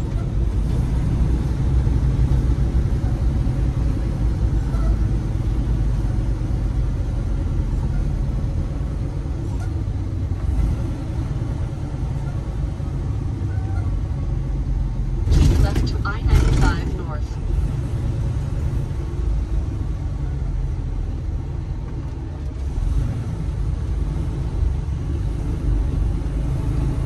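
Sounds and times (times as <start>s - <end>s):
road noise inside cab: 0.0s - 27.0s
truck engine rumble: 0.0s - 27.0s.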